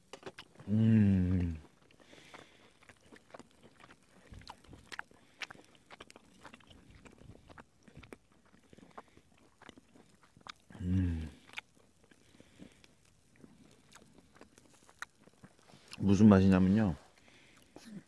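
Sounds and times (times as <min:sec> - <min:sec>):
wet clicks and crunches: 0:00.0 - 0:00.6, 0:01.4 - 0:17.8
close chewing: 0:00.0 - 0:18.0.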